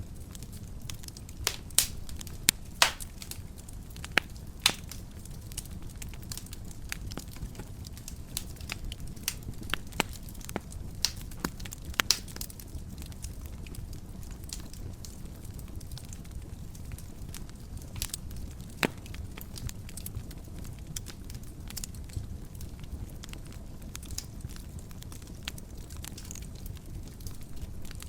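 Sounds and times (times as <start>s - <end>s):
wood fire crackling: 0.0s - 28.0s
low rush of flames: 0.1s - 28.0s.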